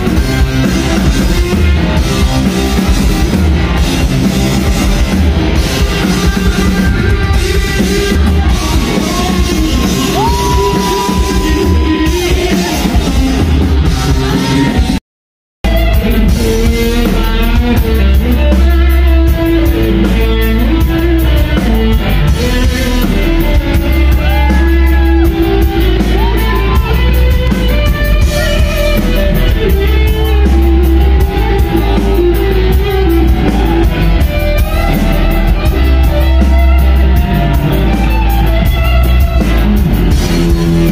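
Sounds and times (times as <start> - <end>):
drum kit: 0.0 - 15.0, 15.6 - 40.9
electric guitar: 0.0 - 15.0, 15.7 - 40.9.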